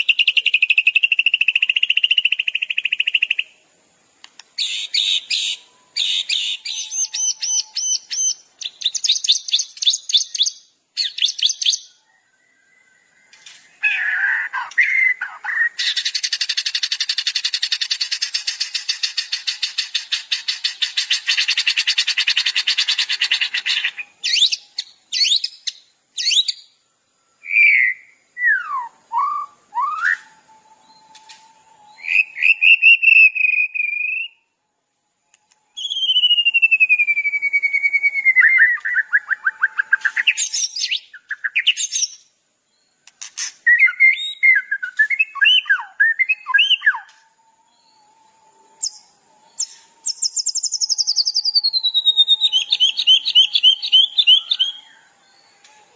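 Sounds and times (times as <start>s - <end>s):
songbird trills and whistles: 0.0s - 3.6s, 4.6s - 26.8s, 27.4s - 34.6s, 35.2s - 55.9s.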